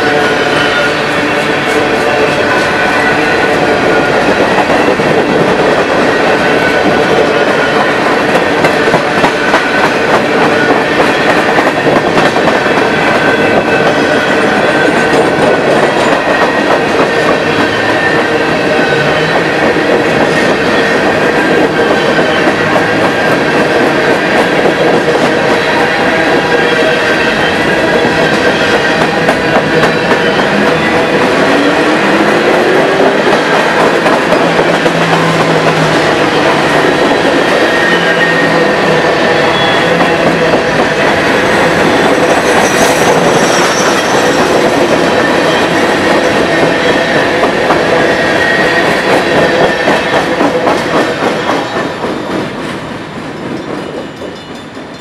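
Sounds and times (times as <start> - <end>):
train rumble: 0.0 - 55.0
train wheels clicking over rails: 0.0 - 55.0.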